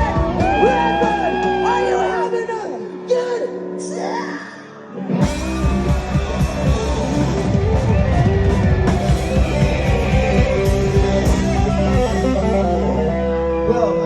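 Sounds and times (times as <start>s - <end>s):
live band playing: 0.0s - 3.8s, 5.0s - 14.0s
electric guitar: 0.0s - 14.0s.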